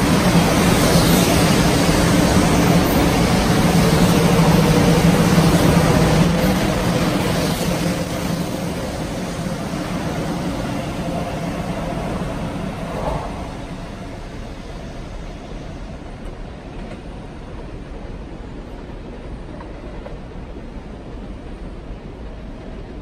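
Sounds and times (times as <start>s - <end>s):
train rumble and wheel noise: 0.0s - 23.0s.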